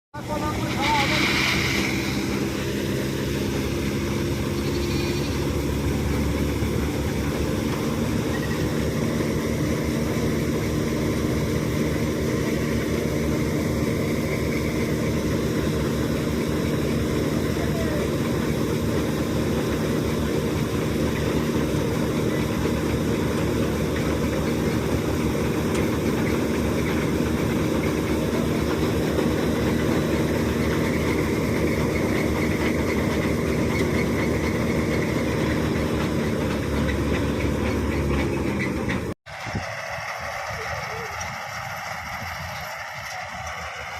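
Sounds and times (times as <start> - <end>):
combine harvester engine drone: 0.2 - 43.9.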